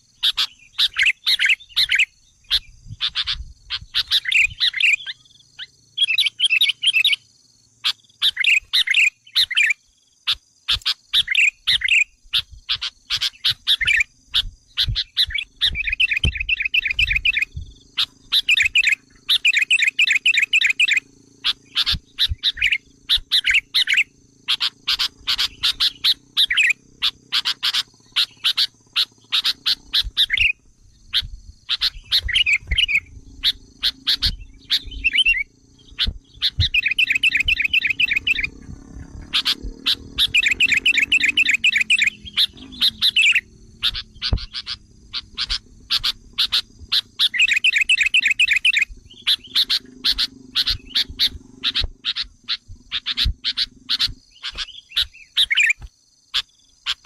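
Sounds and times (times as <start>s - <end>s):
bulbul chattering calls: 0.0s - 57.0s
fast trilled bird chatter: 0.0s - 57.0s.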